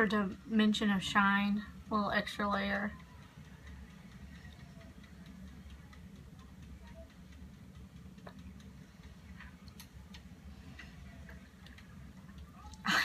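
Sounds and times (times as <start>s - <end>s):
faint ticks and clicks: 0.0s - 13.0s
low steady hum: 0.0s - 13.0s.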